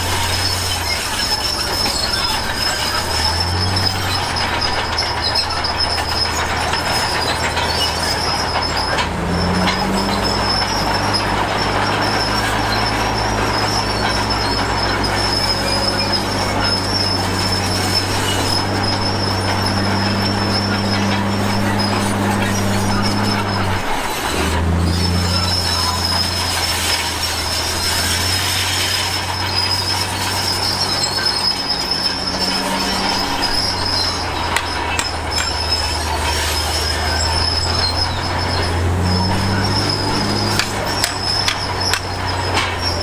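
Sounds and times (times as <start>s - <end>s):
bulldozer diesel engine running: 0.0s - 43.0s
squealing steel tracks: 0.0s - 43.0s.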